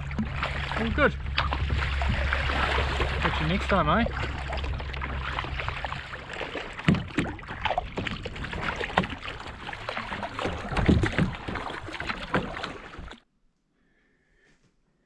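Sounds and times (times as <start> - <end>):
water splashing around a kayak: 0.0 - 13.2.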